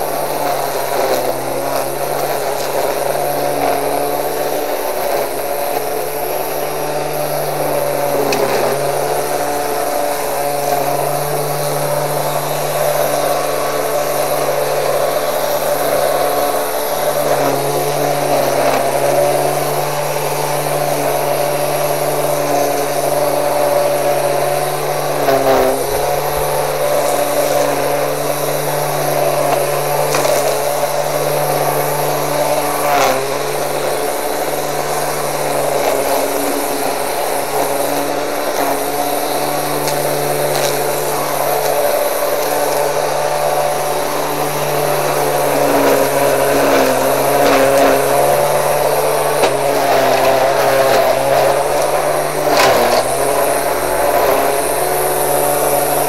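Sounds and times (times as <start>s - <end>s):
strimmer whirring: 0.0s - 56.0s.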